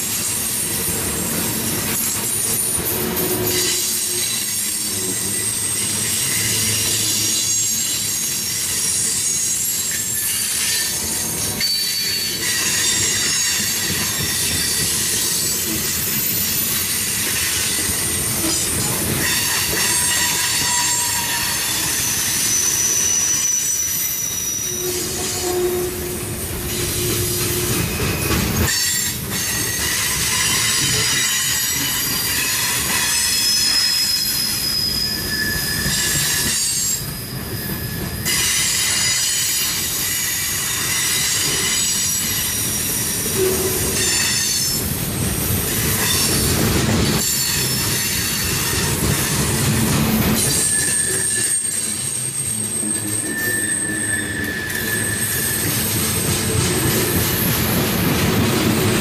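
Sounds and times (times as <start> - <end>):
freight train wheels rumbling: 0.0 - 59.0
wheel squeals: 1.9 - 44.9, 45.6 - 57.8.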